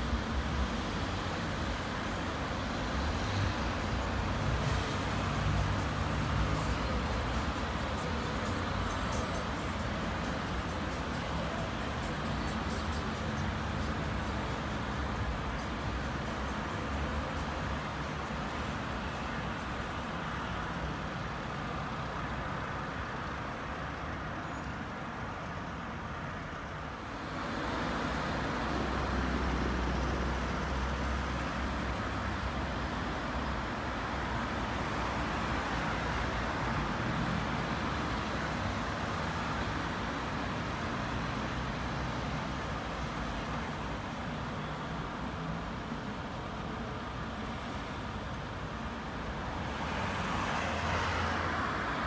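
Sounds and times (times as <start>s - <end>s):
passing car traffic: 0.0s - 52.0s.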